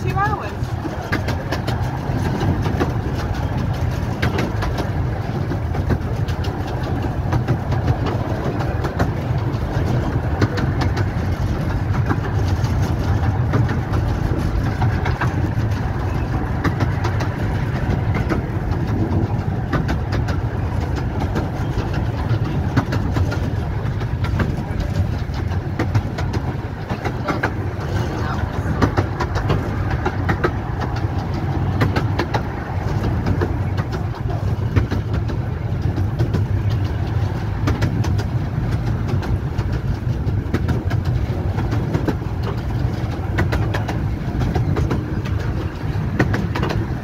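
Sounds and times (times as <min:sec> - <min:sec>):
train rumbling on track: 0:00.0 - 0:47.0
wheels clicking and rattling on rails: 0:00.0 - 0:47.0.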